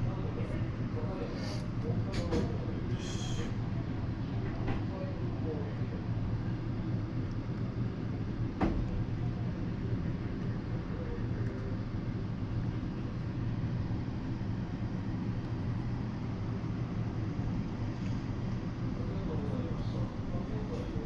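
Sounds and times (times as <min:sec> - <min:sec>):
train interior low rumble: 0:00.0 - 0:21.0.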